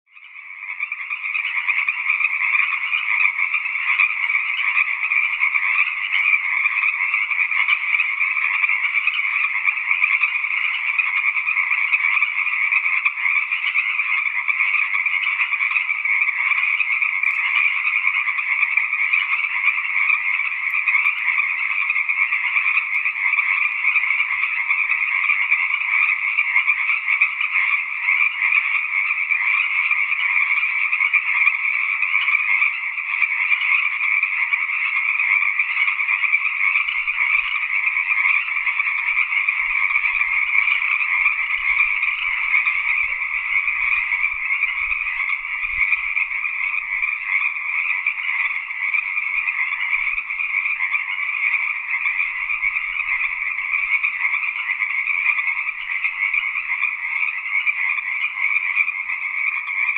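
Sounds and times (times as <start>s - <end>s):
tree frogs trilling: 0.1s - 59.9s.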